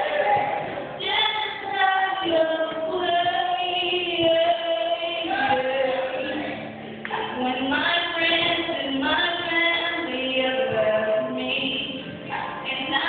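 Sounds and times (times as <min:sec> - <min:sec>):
woman singing: 0:01.0 - 0:13.0.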